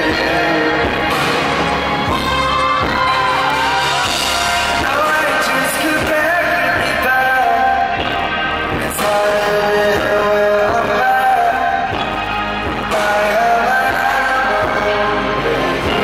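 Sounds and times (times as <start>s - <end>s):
man singing into microphone: 0.0s - 2.1s, 4.7s - 16.0s
live pop band: 0.0s - 16.0s.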